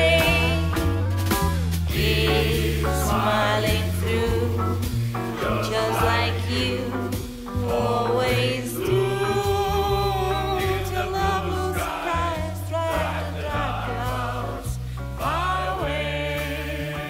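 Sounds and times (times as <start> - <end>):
voices singing in harmony: 0.0 - 1.1, 1.8 - 17.0
walking bass line: 0.0 - 17.0.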